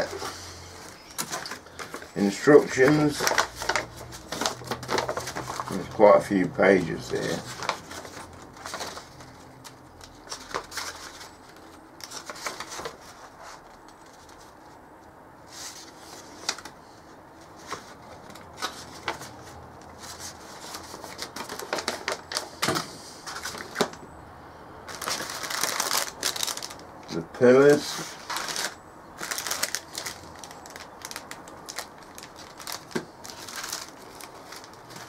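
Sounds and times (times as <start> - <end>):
paper rustling and crackling: 0.0 - 14.8, 15.5 - 24.0, 24.9 - 35.0.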